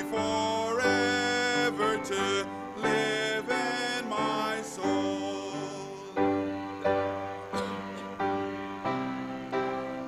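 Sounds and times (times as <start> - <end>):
congregation singing a hymn: 0.0 - 10.0
piano chords: 0.0 - 10.0.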